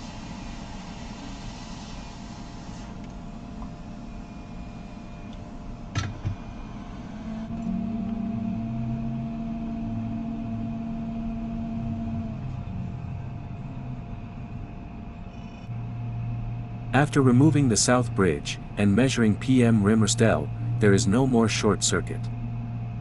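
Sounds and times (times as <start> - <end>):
hot-air station blowing hum: 0.0 - 23.0
steady low hum: 0.0 - 23.0.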